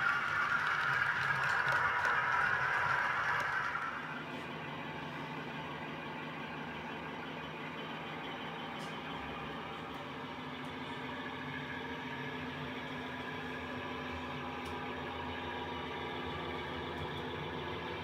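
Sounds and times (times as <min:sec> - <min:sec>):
model locomotive engine idling: 0:00.0 - 0:18.0.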